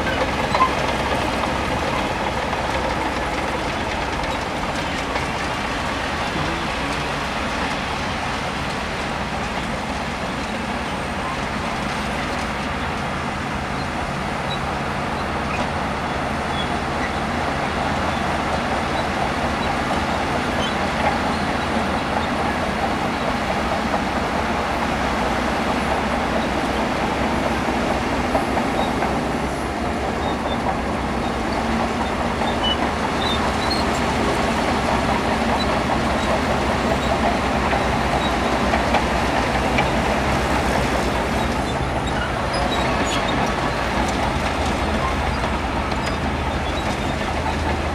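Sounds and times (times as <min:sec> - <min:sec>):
diesel engine running: 0:00.0 - 0:47.9
steel tracks rattling and grinding: 0:00.0 - 0:47.9.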